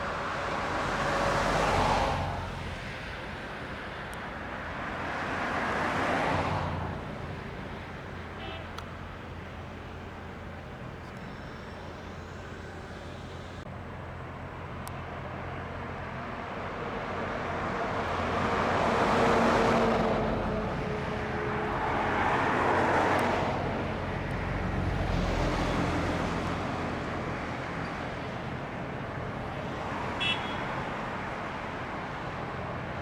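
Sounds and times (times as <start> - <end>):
cars passing: 0.0 - 33.0
low traffic hum: 0.0 - 33.0.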